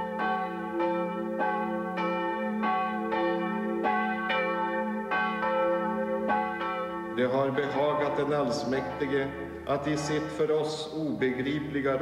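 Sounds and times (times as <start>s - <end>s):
church bells pealing: 0.0s - 12.0s.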